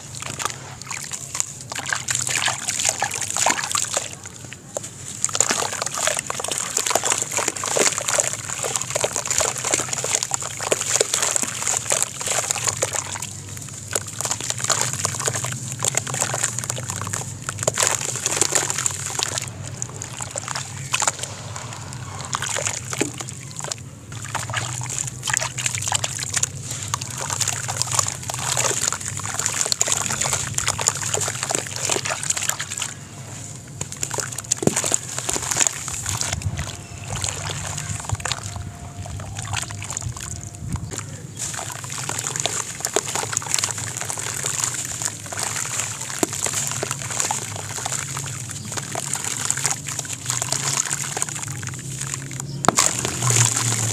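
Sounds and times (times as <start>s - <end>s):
wet squelching and sloshing: 0.0s - 53.9s.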